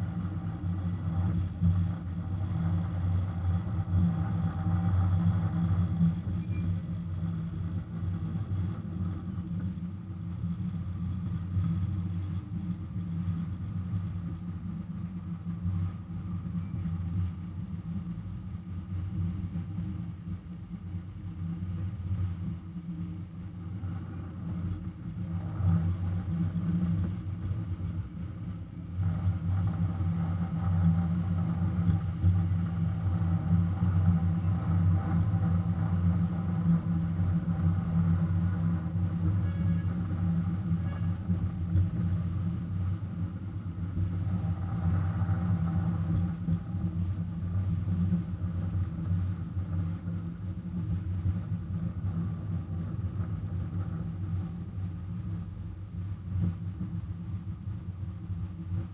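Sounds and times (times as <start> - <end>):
miniature locomotive engine humming: 0.0 - 58.9.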